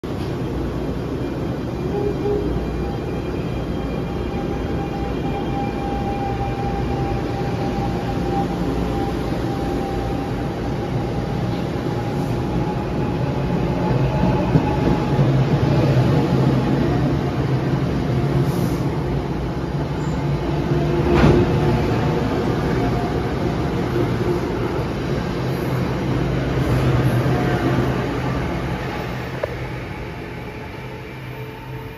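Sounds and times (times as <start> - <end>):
train hum: 0.0 - 31.9
train wheels on rails: 2.3 - 31.9.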